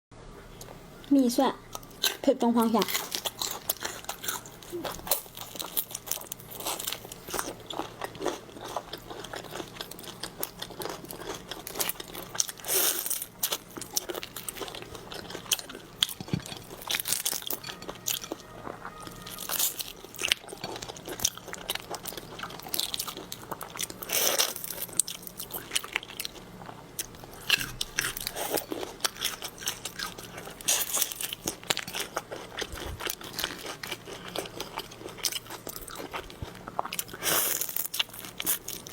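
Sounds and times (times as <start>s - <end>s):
crunchy chewing of shrimp: 1.7s - 38.9s.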